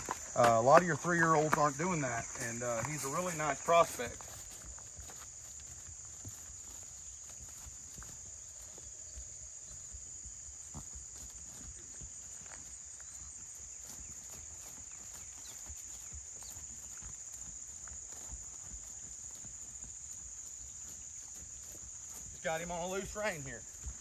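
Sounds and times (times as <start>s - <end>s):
high-pitched insect chorus: 0.0s - 24.0s
horse hooves on grass: 0.0s - 24.0s.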